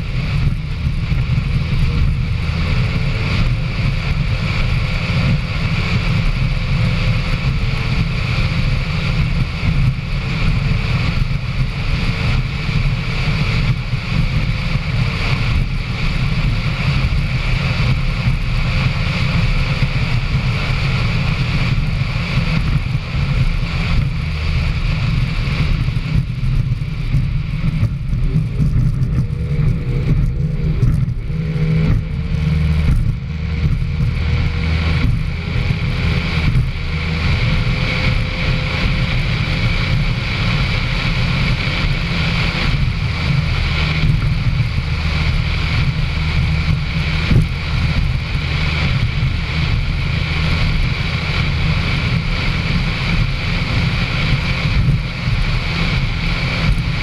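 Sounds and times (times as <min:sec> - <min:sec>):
powerboat engine running hard: 0:00.0 - 0:57.0.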